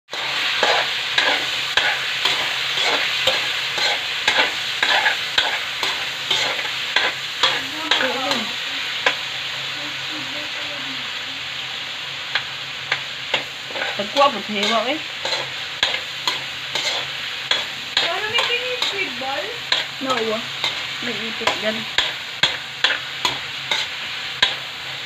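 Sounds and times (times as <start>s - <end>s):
spatula scraping a wok: 0.1s - 9.6s, 11.6s - 25.0s
meat sizzling in oil: 0.1s - 25.0s.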